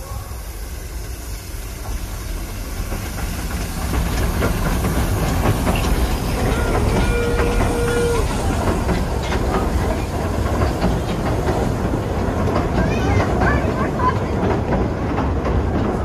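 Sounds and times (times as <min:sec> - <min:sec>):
train wheels clattering over rails: 0:00.6 - 0:16.0.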